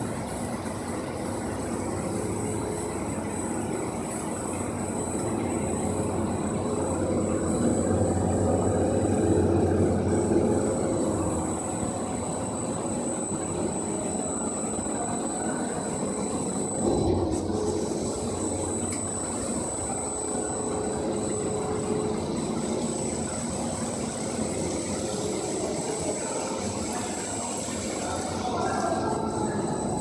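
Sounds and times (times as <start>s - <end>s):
machine running noise: 0.0s - 30.0s
thin high whine: 0.0s - 30.0s.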